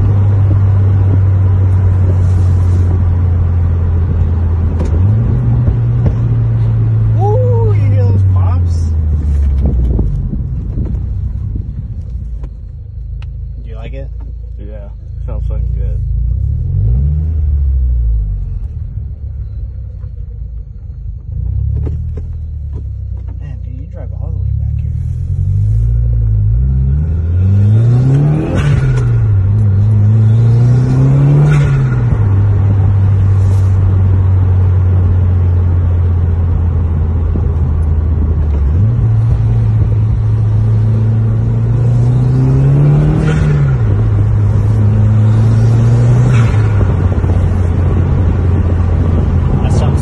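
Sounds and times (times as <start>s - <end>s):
turbocharged car engine accelerating: 0.0s - 13.0s, 13.6s - 50.0s.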